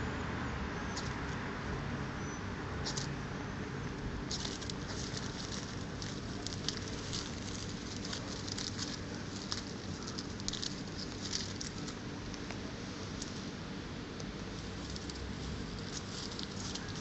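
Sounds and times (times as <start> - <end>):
faint steady hum: 0.0 - 17.0
rustling in dry leaves: 2.8 - 17.0.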